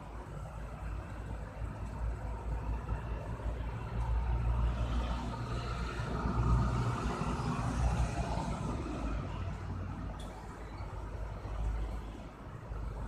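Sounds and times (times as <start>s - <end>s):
road vehicle passing: 2.3s - 13.0s.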